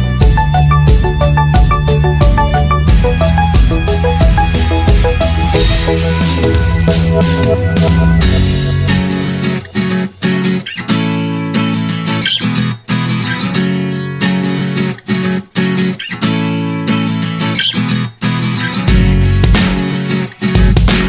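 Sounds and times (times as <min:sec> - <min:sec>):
strummed acoustic guitar music: 0:00.0 - 0:21.0.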